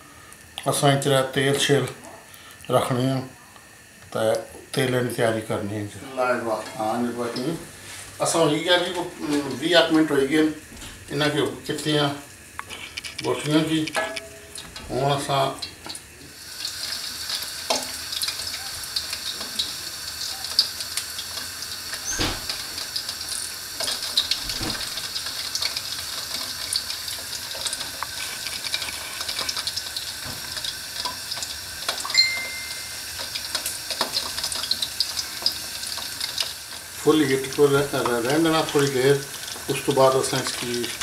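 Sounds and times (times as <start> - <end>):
chicken deep-frying in hot oil: 0.0 - 41.0.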